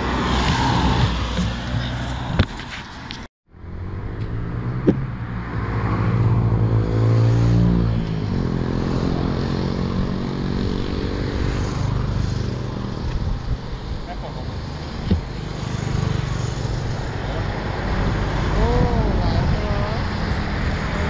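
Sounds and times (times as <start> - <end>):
vehicle engine passing: 3.5 - 21.0.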